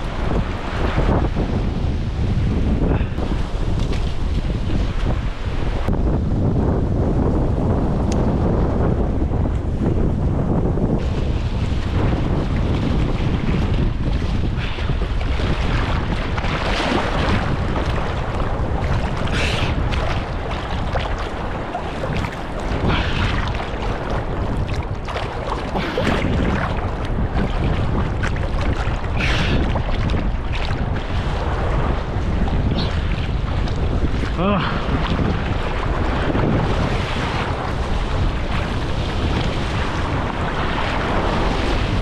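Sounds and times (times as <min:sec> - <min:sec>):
seawater sloshing over rocks: 0:00.0 - 0:06.0, 0:10.9 - 0:42.0
small waves washing: 0:00.0 - 0:06.0, 0:11.0 - 0:42.0
water splashes: 0:00.0 - 0:06.0, 0:11.0 - 0:42.0
wind buffeting microphone: 0:00.0 - 0:42.0.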